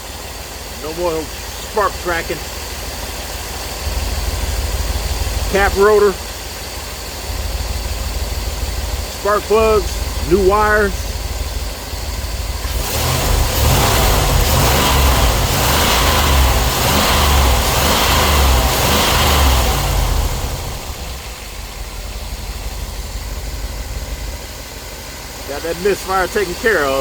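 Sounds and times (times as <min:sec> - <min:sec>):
petrol engine idling and revving: 0:00.0 - 0:27.0.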